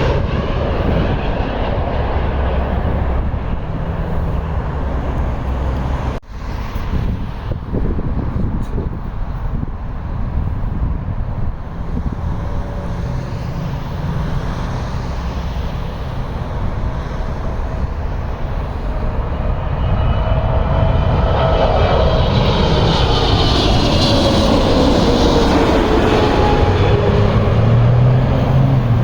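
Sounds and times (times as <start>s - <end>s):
jet airliner landing: 0.0s - 29.0s.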